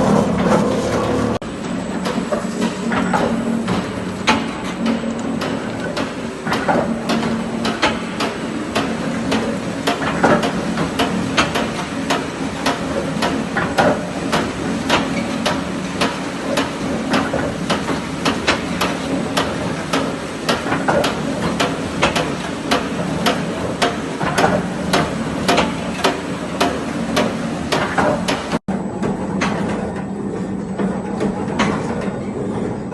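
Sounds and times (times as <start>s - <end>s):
machine mechanical hum: 0.0s - 32.9s.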